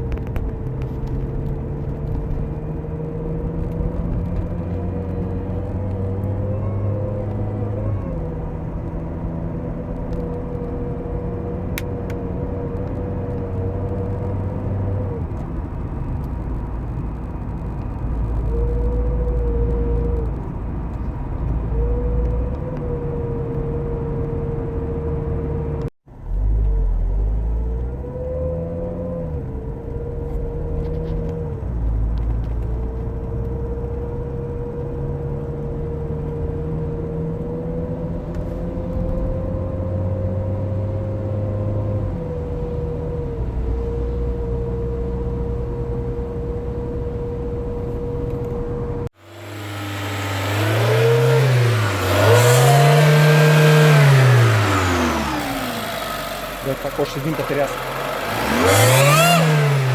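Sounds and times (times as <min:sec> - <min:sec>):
car engine running: 0:00.0 - 0:59.9
steady engine whine: 0:00.0 - 0:59.9.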